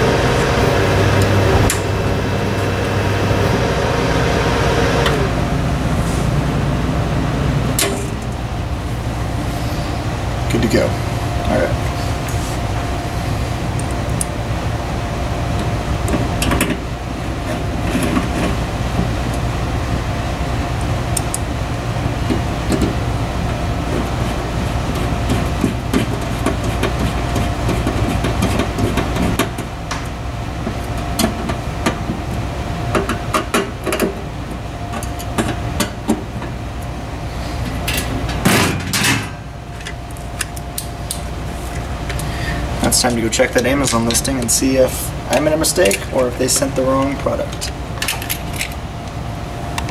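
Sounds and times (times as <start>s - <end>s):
low machine hum: 0.0s - 49.9s.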